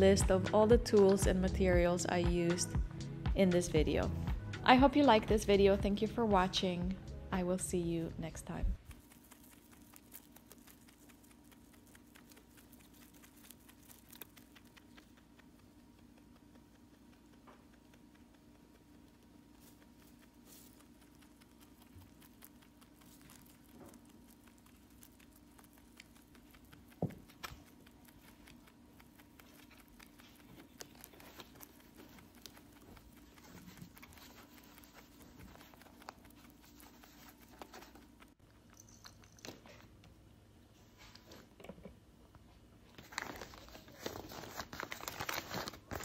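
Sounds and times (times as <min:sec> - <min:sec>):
low steady hum: 0:00.0 - 0:46.0
rabbit chewing hay: 0:03.6 - 0:41.6, 0:42.4 - 0:46.0.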